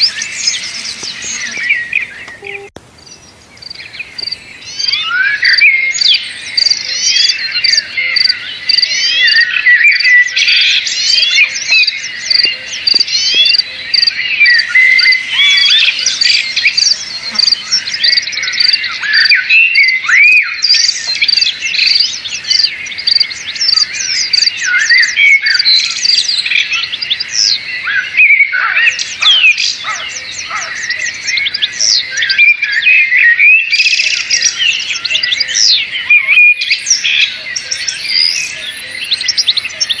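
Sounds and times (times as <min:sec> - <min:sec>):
chorus of birds chirping: 0:00.0 - 0:40.0.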